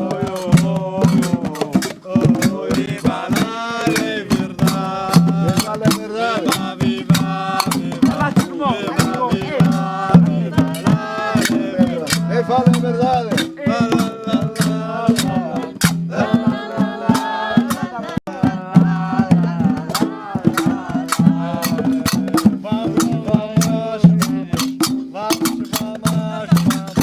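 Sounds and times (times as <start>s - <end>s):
hand drums beating: 0.0s - 27.0s
voices singing: 0.0s - 27.0s.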